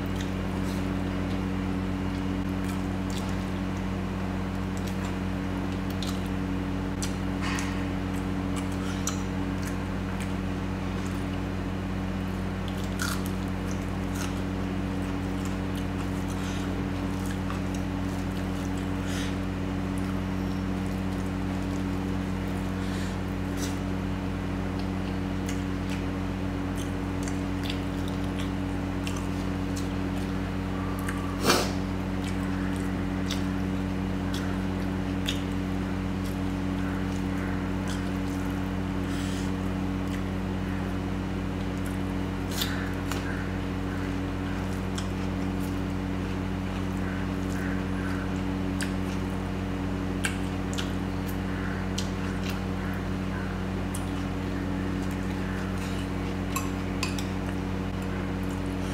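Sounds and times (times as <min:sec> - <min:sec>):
chewing food: 0:00.0 - 0:11.5, 0:12.2 - 0:24.0, 0:24.6 - 0:58.9
steady low hum: 0:00.0 - 0:58.9.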